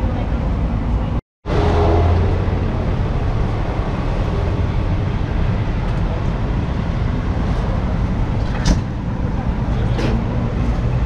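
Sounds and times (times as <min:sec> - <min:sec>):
highway traffic road noise: 0:00.0 - 0:11.0
vehicle engines idling: 0:00.0 - 0:11.0.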